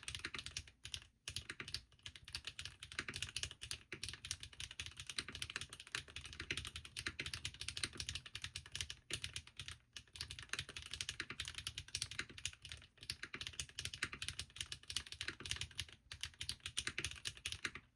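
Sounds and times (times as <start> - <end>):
mechanical keyboard typing: 0.0 - 17.9.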